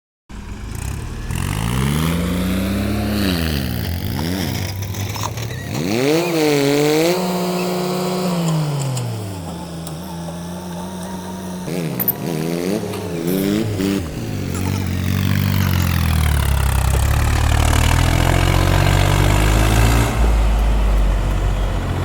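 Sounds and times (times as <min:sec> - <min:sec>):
diesel engine revving: 0:00.3 - 0:22.0.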